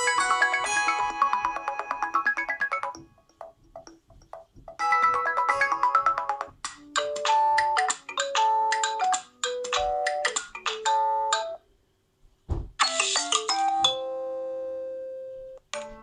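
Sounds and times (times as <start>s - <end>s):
phone ringtone melodies: 0.0s - 3.9s, 4.8s - 11.6s, 12.8s - 15.3s.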